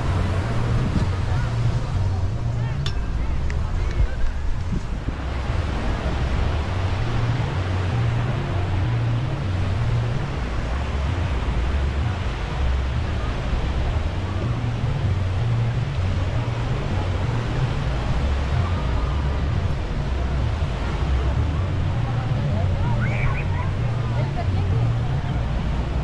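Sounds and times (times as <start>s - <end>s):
faint voices: 0.0s - 26.0s
surf washing: 0.0s - 26.0s
wind buffeting microphone: 0.0s - 26.0s.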